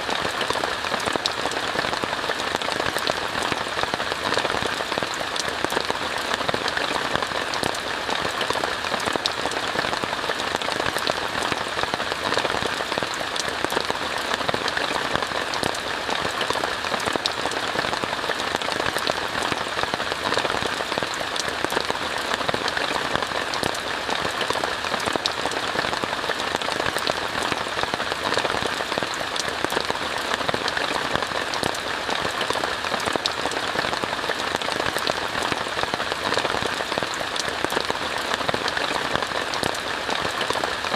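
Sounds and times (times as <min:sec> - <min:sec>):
rain falling on a tent: 0:00.0 - 0:40.9.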